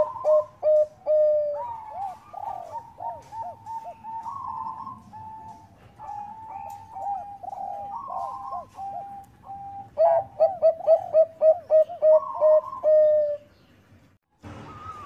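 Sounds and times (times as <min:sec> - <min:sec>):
dove cooing: 0:00.0 - 0:13.5.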